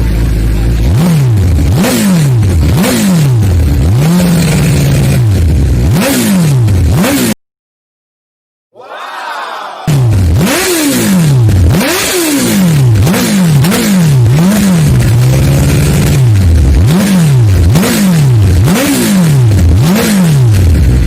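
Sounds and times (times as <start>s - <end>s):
motorcycle engine revving: 0.0s - 7.4s, 9.9s - 21.0s.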